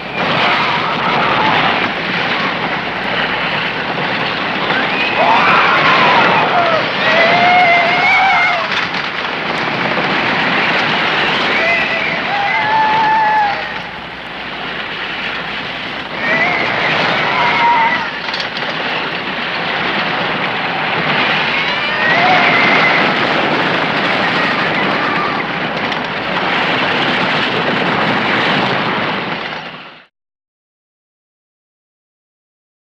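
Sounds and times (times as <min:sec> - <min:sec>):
riders screaming: 0:00.0 - 0:29.1
roller coaster rushing on track: 0:00.0 - 0:30.1.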